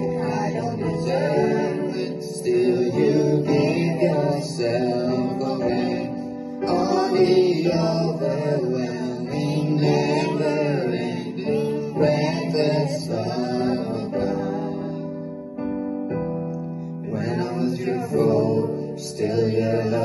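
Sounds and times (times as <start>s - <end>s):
boys singing through microphones: 0.0s - 15.3s, 17.0s - 20.0s
electronic keyboard: 0.0s - 20.0s.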